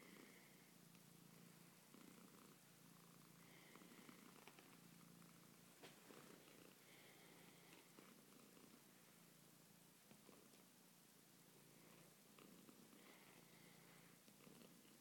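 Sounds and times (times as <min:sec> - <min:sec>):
cat purring faintly: 0:00.0 - 0:15.0.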